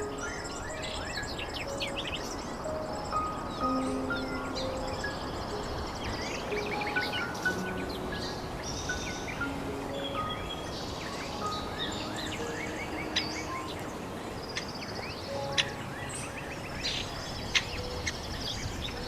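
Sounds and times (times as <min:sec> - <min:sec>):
birds singing and calling: 0:00.0 - 0:19.0
steady low background noise: 0:00.0 - 0:19.0.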